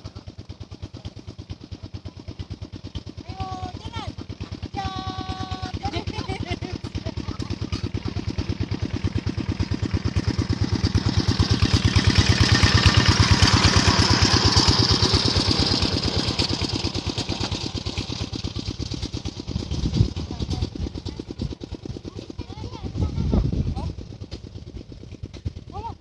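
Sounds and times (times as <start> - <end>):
small engine passing by: 0.0 - 26.0.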